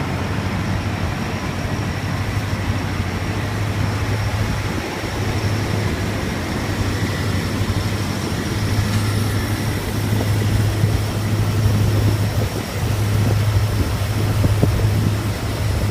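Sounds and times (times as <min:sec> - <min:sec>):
combine harvester engine humming: 0:00.0 - 0:15.9.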